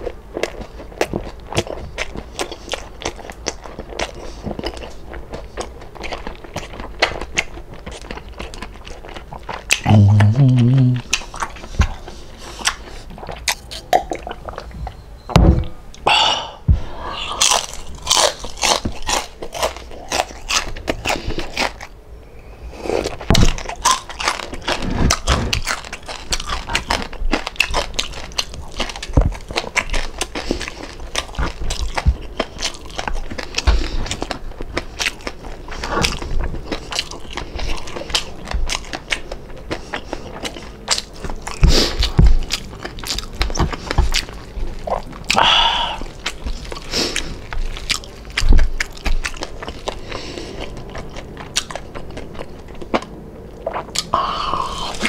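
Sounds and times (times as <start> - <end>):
chewing crispy fried pork: 0.0 - 15.0, 17.1 - 22.0, 22.8 - 55.0.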